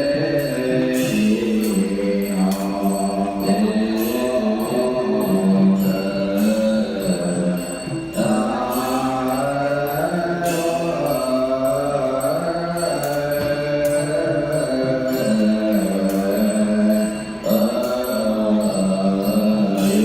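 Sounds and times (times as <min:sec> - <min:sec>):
low voices chanting held notes: 0:00.0 - 0:20.0.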